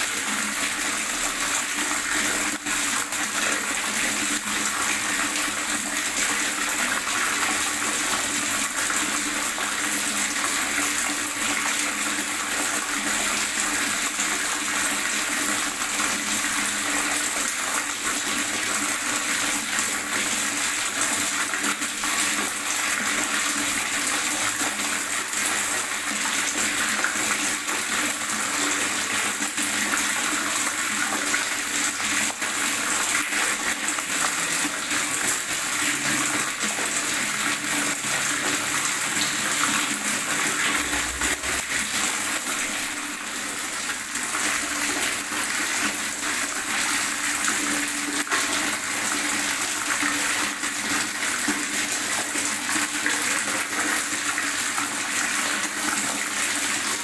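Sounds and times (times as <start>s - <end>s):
water gurgling and running: 0.0s - 57.0s.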